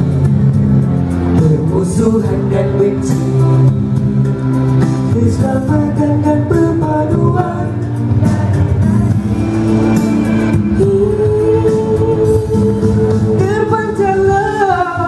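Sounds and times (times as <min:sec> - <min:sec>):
male vocal group singing: 0:01.4 - 0:04.1, 0:05.0 - 0:15.0.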